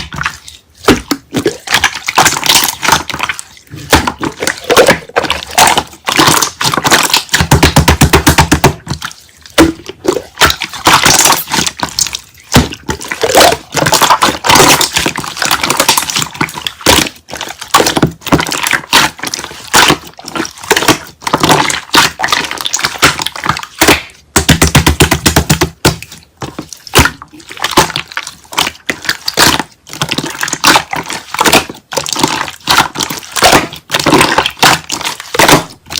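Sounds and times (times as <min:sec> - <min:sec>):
slime squished by hand: 0:00.0 - 0:35.9.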